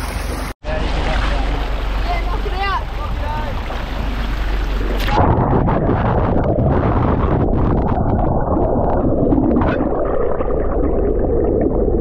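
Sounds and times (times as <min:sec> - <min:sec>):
muffled underwater water rushing: 0:00.0 - 0:12.0.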